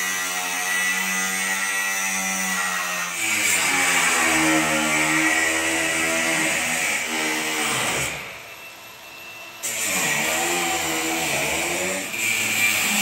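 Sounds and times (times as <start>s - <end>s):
angle grinder cutting metal: 0.0s - 8.5s, 9.6s - 13.0s.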